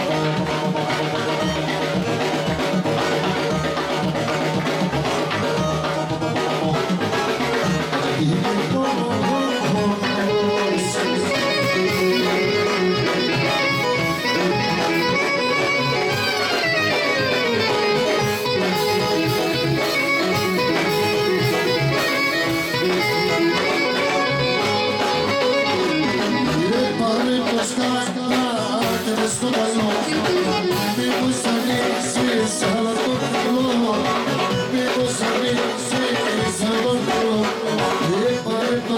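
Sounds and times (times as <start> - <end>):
clarinet melody: 0.0 - 28.0, 30.0 - 35.0
drum kit: 0.0 - 38.9
electronic keyboard: 0.0 - 38.9.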